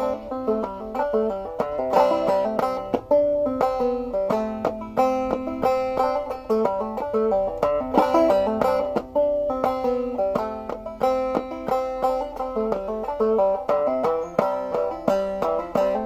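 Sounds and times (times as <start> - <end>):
banjo playing a fiddle tune: 0.0 - 16.0.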